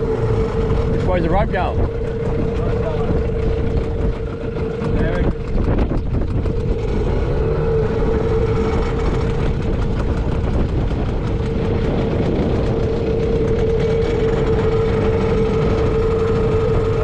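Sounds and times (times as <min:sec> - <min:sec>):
outboard motor idling: 0:00.0 - 0:17.0.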